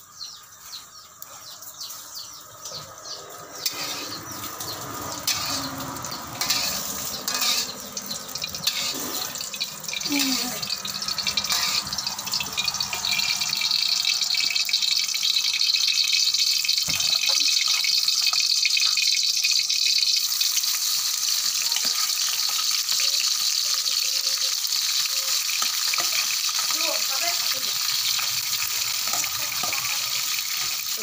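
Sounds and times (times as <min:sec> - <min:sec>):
oil sizzling in a wok: 0:00.0 - 0:31.0.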